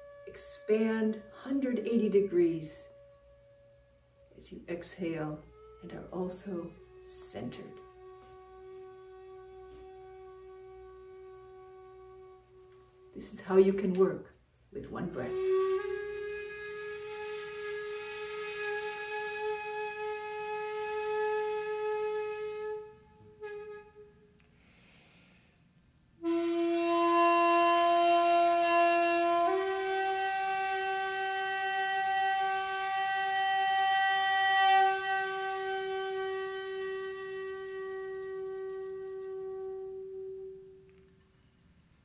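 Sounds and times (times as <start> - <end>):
flute-like instrument held notes: 0.0 - 13.8, 14.8 - 41.7.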